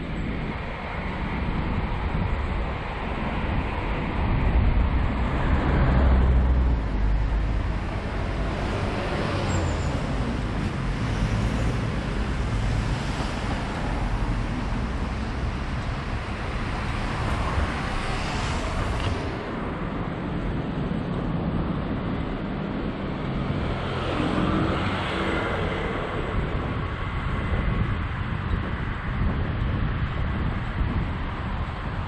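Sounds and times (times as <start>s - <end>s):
low traffic rumble: 0.0s - 32.0s
vehicles passing: 0.0s - 32.0s.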